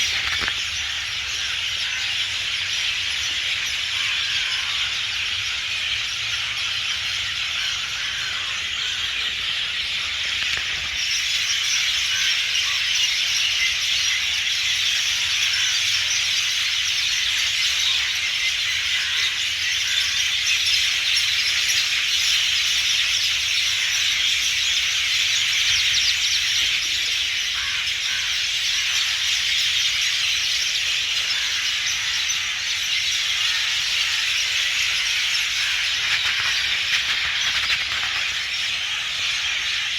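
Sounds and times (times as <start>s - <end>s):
chorus of birds and insects: 0.0s - 39.9s.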